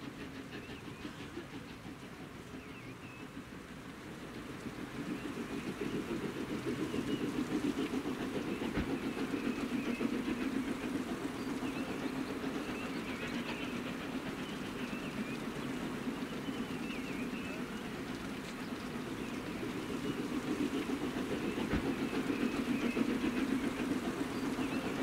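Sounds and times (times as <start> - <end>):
steam locomotive exhaust: 0.0 - 25.0
train running: 0.0 - 25.0.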